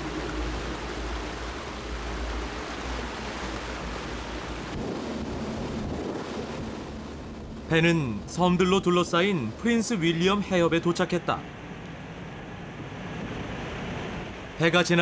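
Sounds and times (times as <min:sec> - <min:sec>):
boat wake water rushing: 0:00.0 - 0:15.0
wind and sea water rushing: 0:00.0 - 0:15.0.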